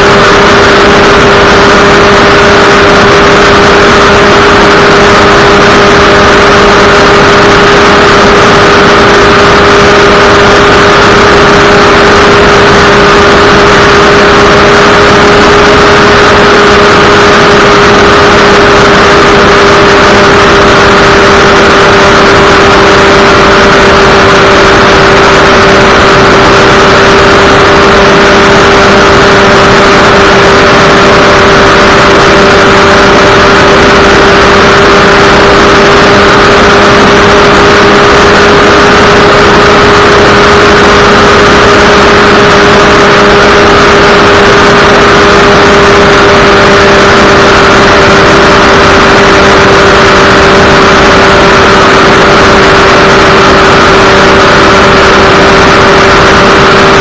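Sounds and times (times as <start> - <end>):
two-stroke engine at full throttle: 0.0 - 57.0
wind rush over microphone: 0.0 - 57.0.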